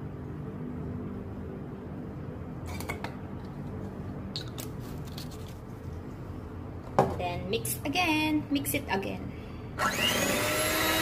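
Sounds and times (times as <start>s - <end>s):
low background hum: 0.0s - 10.1s.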